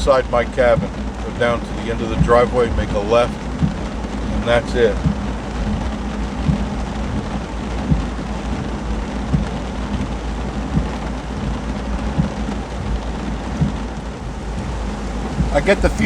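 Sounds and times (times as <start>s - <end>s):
heavy rain falling: 0.0s - 16.0s
low thunder rumble: 0.0s - 16.0s.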